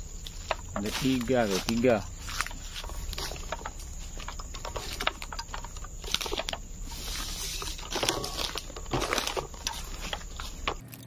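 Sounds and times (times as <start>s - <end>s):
footsteps crunching through dry leaves: 0.0s - 10.9s.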